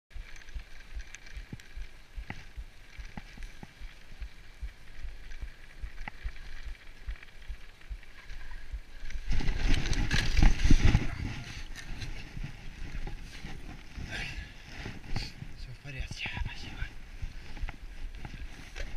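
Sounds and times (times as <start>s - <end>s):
bicycle rattling: 0.1s - 15.7s
bicycle rolling over snow: 0.1s - 18.9s.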